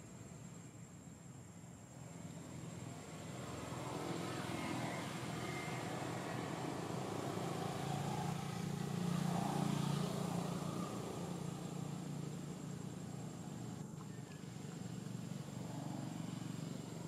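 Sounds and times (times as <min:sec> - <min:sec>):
vehicle engine droning: 0:02.2 - 0:17.0.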